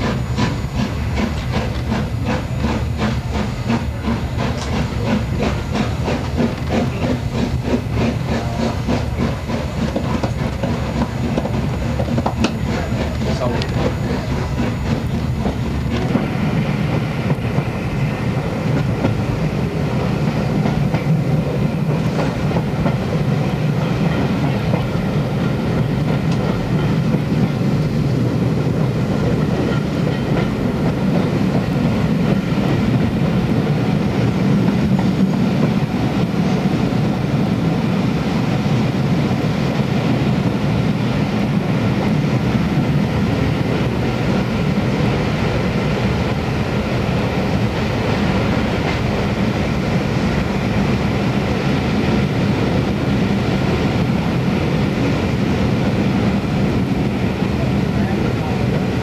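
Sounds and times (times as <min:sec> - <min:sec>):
train wheels on rail: 0:00.0 - 0:59.0.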